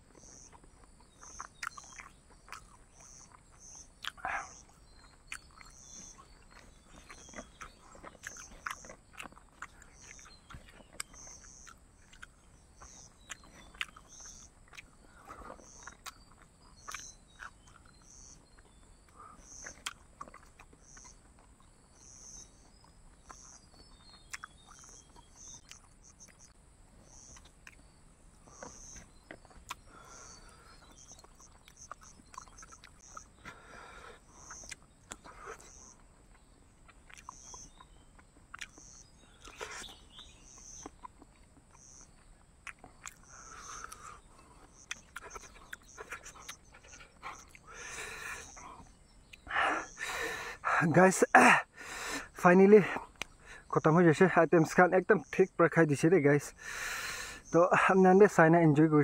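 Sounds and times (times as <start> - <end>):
man chewing with mouth clicks: 0.0 - 53.8.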